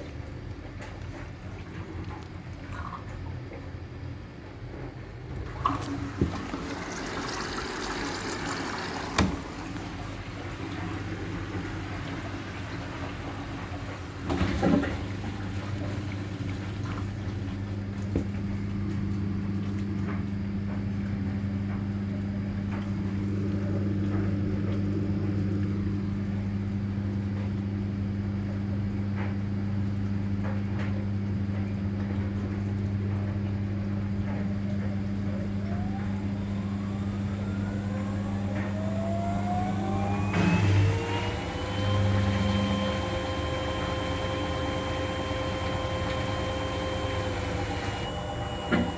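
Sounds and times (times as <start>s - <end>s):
washing machine humming: 0.0s - 48.9s
drum motor whine: 4.3s - 48.9s.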